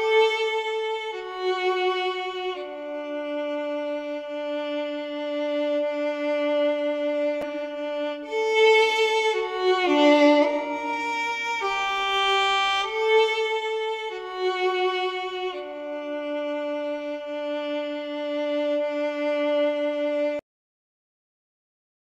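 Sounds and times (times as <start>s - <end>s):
slow violin melody: 0.0s - 20.4s.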